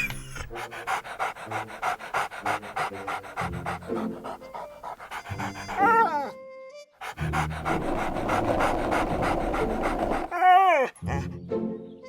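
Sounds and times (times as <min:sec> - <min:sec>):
cartoon puppy panting: 0:00.0 - 0:06.3, 0:07.0 - 0:11.4
light background music: 0:00.0 - 0:10.2, 0:11.0 - 0:12.0.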